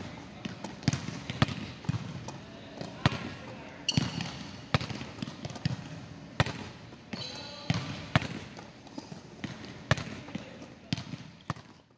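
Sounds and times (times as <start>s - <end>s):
volleyball slaps echoing in hall: 0.0s - 11.9s.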